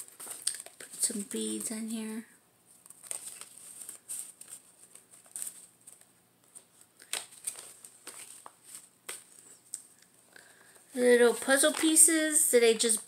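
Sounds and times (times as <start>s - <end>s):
paper pages rustling: 0.0s - 1.8s, 2.7s - 10.0s, 11.0s - 13.0s.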